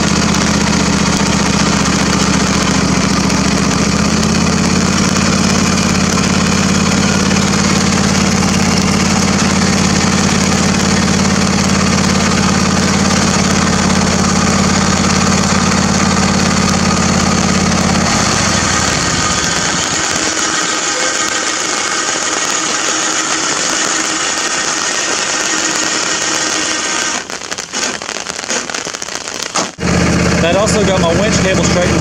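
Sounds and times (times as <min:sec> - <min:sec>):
low hum: 0:00.0 - 0:27.4
electric winch winding cable: 0:00.0 - 0:32.0
high steady whir: 0:00.0 - 0:32.0.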